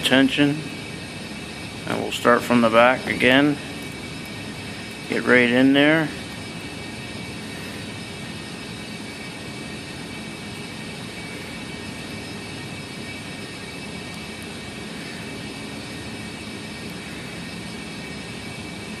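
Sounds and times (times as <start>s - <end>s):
background hum and hiss: 0.0s - 19.0s
faint steady tones: 0.0s - 19.0s.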